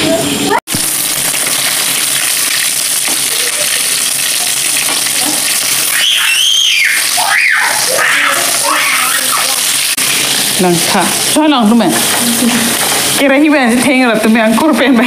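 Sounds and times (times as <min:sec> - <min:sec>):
fish sizzling in hot oil: 0:00.7 - 0:15.0.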